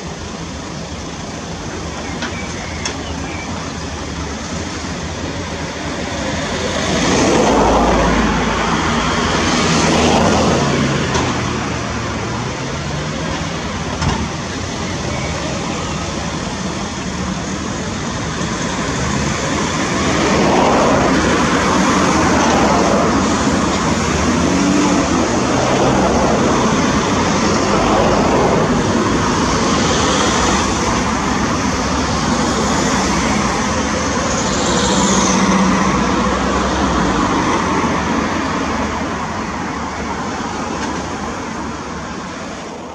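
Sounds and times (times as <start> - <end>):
heavy diesel machinery: 0.0 - 42.9
road traffic rumble: 0.0 - 42.9.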